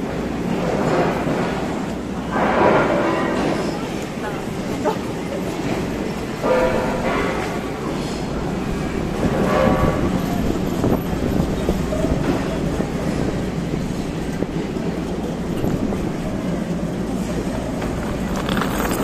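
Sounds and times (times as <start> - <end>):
train running on rails: 0.0 - 19.0.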